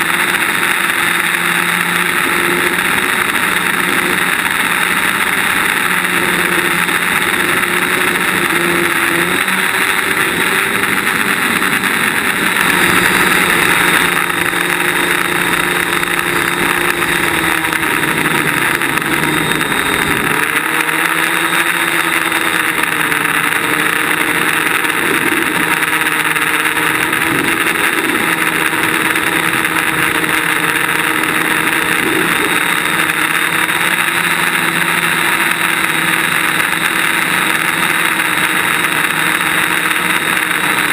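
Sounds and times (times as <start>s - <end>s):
quadcopter propellers buzzing: 0.0s - 40.9s.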